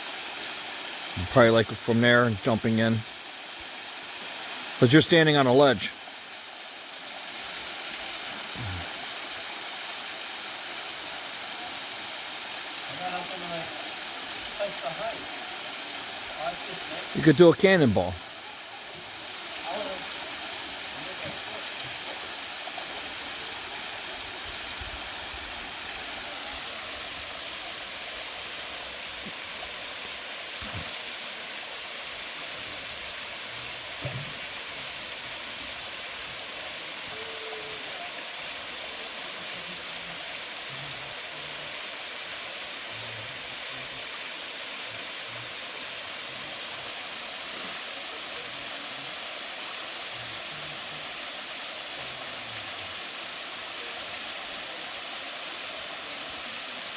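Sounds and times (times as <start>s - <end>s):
waterfall rushing into pool: 0.0s - 56.9s.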